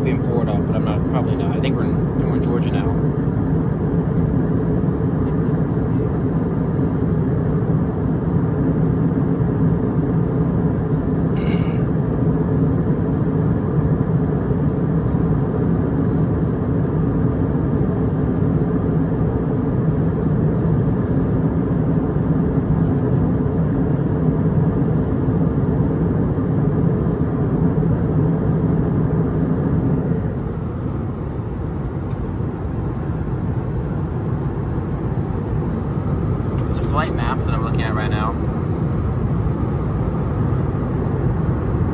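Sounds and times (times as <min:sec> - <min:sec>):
airplane cabin engine rush: 0:00.0 - 0:41.9.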